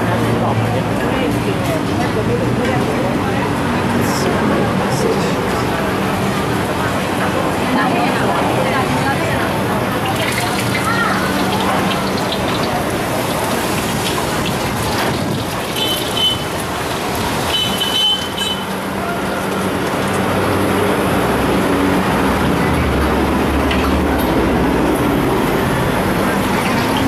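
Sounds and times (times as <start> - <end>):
traffic hum: 0.0 - 27.0.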